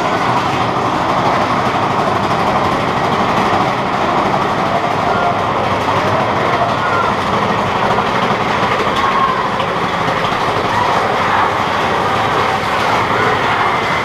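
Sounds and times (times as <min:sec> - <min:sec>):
roller coaster wheels rumbling on track: 0:00.0 - 0:14.0.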